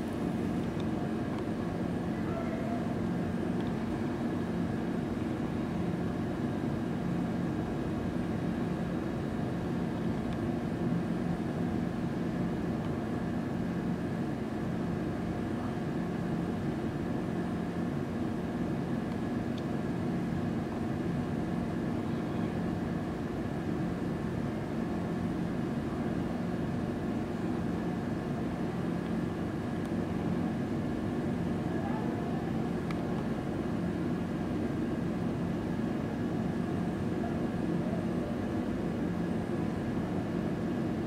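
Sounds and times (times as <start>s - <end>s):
jet engines droning in flight: 0.0s - 41.0s.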